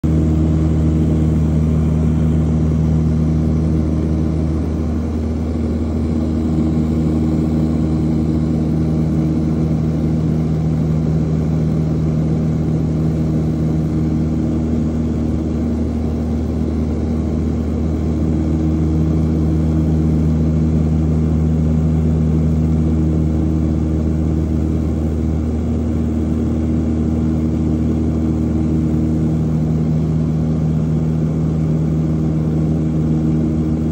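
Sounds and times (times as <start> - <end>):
propeller airplane cabin drone: 0.0 - 33.9.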